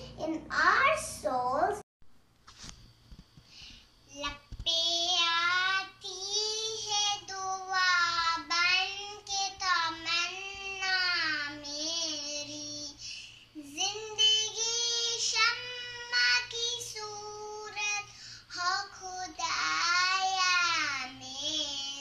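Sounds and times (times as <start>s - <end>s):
girl singing: 4.1s - 22.0s.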